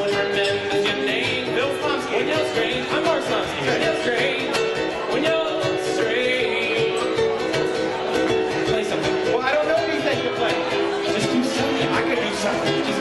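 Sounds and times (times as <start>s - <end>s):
person singing: 0.0s - 13.0s
ukulele strumming: 0.0s - 13.0s.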